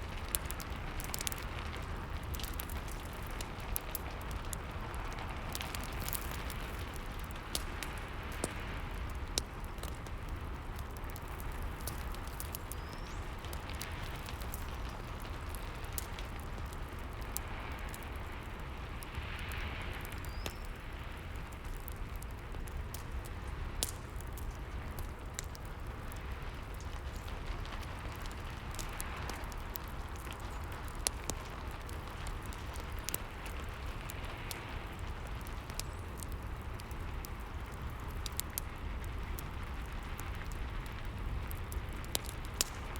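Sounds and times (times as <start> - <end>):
burning logs crackling: 0.0 - 42.9.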